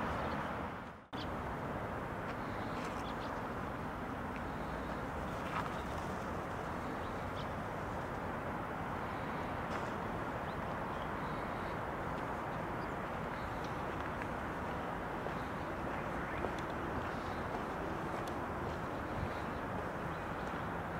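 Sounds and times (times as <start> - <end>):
distant traffic: 0.0 - 20.9.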